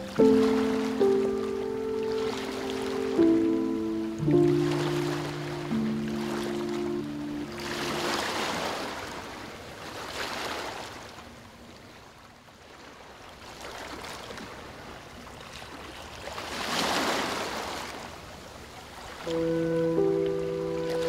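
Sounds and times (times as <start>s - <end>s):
waves washing in and back: 0.0s - 21.0s.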